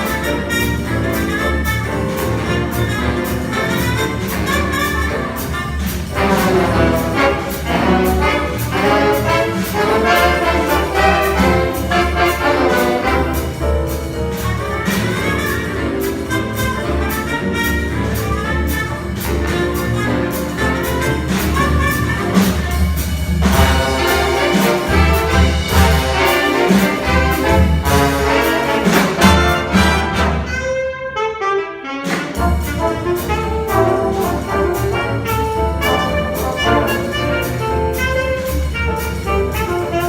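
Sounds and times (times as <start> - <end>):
big band swing music: 0.0 - 40.0.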